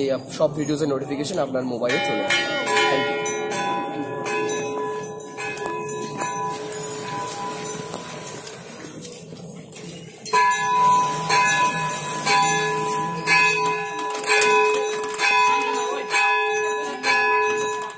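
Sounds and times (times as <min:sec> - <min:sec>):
metal bell ringing: 0:01.8 - 0:17.9.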